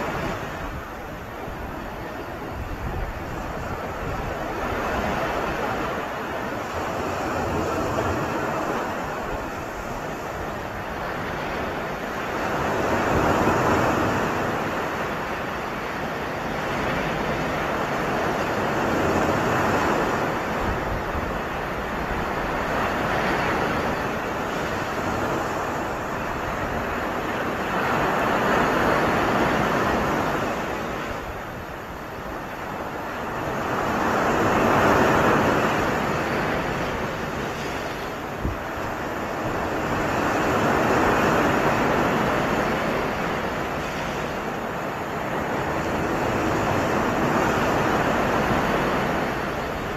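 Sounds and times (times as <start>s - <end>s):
waves breaking on beach: 0.0s - 49.9s.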